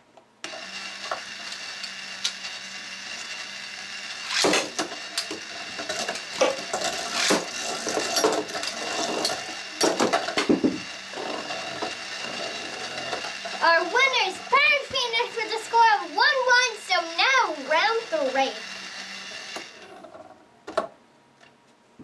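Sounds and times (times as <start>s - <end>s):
spinning tops whirring and clashing: 0.5s - 20.4s.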